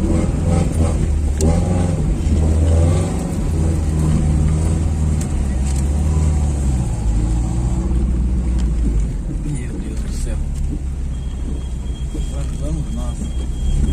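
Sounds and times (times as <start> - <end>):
pickup engine humming inside cab: 0.0 - 13.9.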